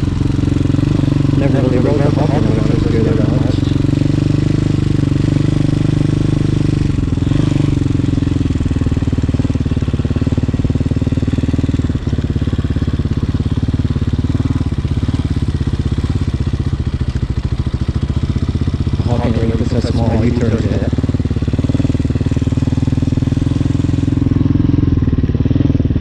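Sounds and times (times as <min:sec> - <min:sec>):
dirt bike engine at low revs: 0:00.0 - 0:26.0.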